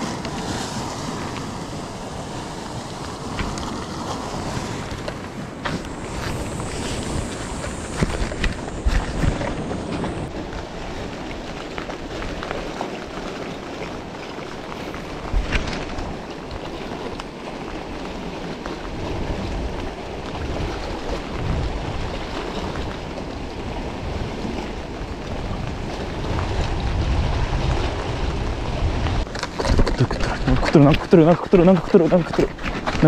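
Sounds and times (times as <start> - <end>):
sea surf: 0.0 - 33.0
wind: 0.0 - 33.0
wind buffeting microphone: 0.0 - 33.0.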